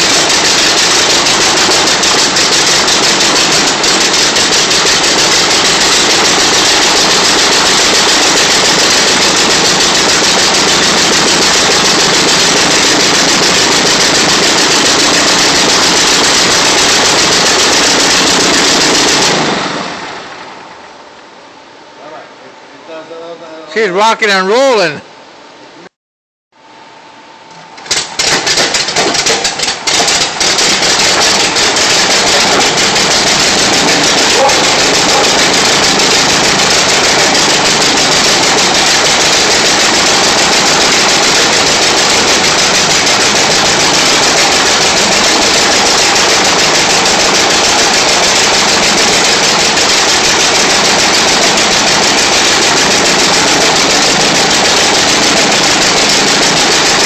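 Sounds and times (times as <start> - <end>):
radial engine sputtering and running: 0.0 - 20.8, 27.7 - 57.0.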